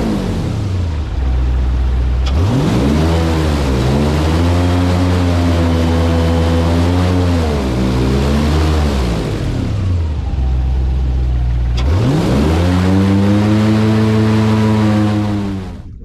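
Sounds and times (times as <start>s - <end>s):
airboat engine and propeller: 0.0s - 16.0s.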